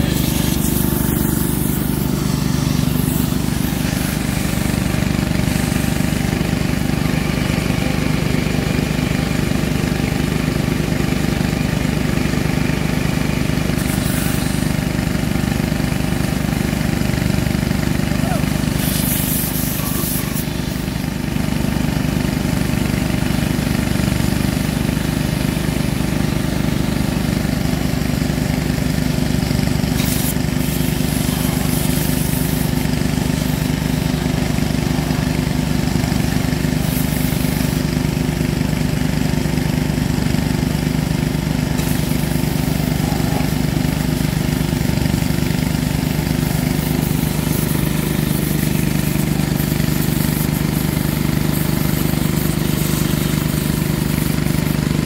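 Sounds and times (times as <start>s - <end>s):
water jet spraying on metal: 0.0s - 8.2s, 13.3s - 16.9s, 17.6s - 55.0s
pressure washer engine running: 0.0s - 55.0s.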